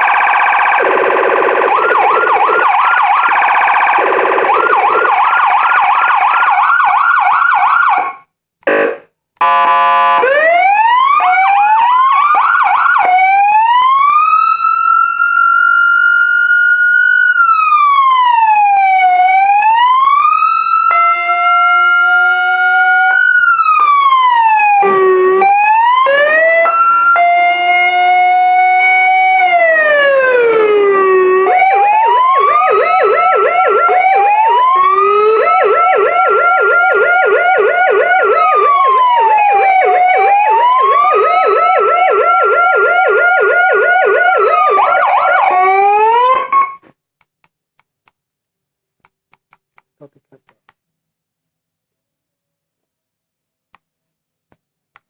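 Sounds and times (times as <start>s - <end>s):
electronic vehicle siren: 0.0s - 46.8s.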